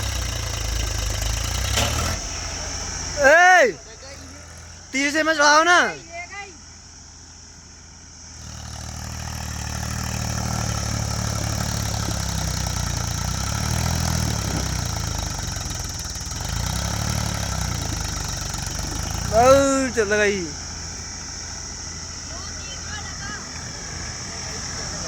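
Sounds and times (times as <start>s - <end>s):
high-pitched hiss: 0.0s - 13.6s, 17.2s - 25.0s
tractor diesel engine labouring: 0.0s - 25.0s.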